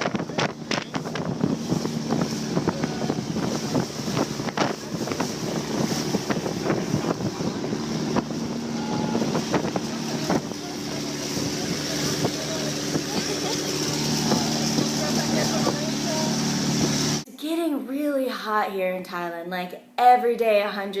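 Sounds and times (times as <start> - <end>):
wind buffeting microphone: 0.0 - 17.2
boat engine running: 0.0 - 17.3.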